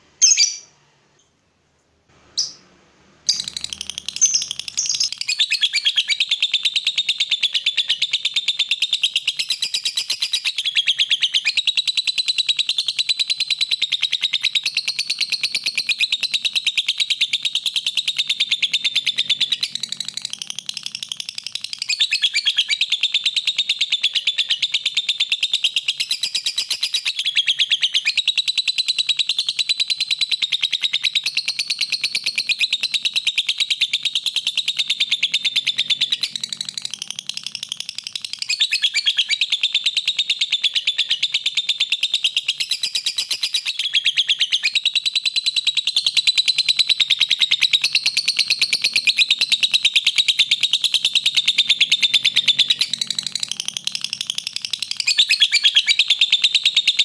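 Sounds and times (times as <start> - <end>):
lovebird chattering trill: 0.2 - 0.7, 2.4 - 2.6, 3.3 - 57.0.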